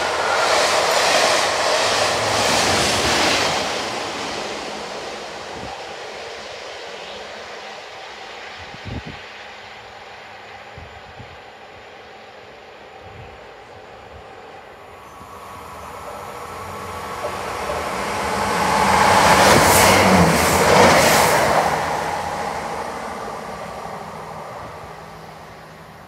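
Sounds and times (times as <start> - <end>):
train passing through station: 0.0 - 26.0.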